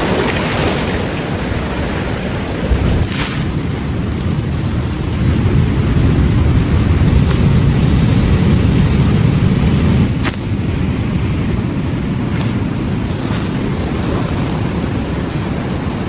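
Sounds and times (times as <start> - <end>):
surf rumbling on beach: 0.0 - 16.0
wind on microphone: 0.0 - 16.0.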